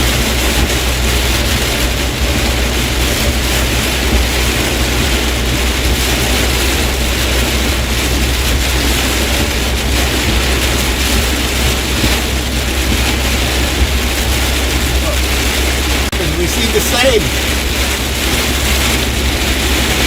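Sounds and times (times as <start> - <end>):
heavy rain beating on truck: 0.0 - 20.0
truck rumbling on flooded road: 0.0 - 20.0.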